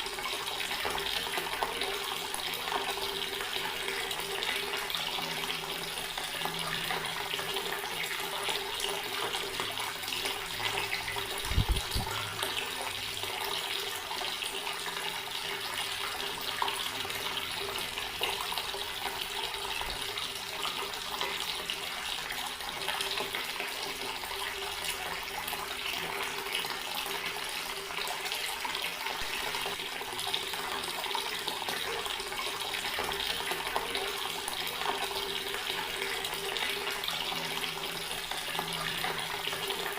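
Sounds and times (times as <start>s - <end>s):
tap water running and splashing: 0.0s - 39.9s.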